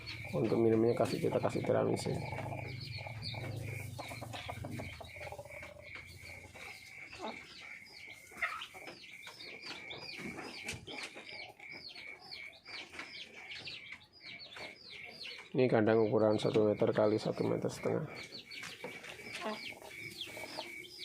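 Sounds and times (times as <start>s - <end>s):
chickens chirping: 0.0s - 21.0s.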